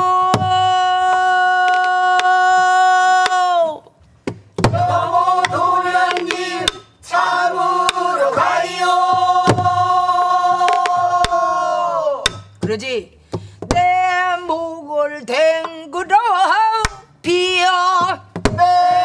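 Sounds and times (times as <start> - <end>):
folk singing with held notes: 0.0 - 3.9, 4.6 - 12.5, 13.7 - 19.0.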